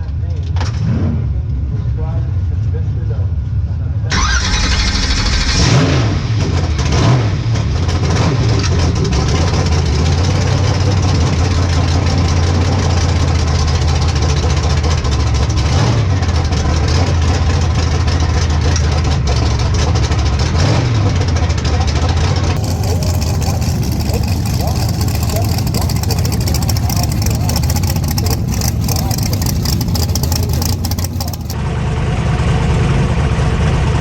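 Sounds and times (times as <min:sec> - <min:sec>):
race car engine idling and revving: 0:00.0 - 0:34.0.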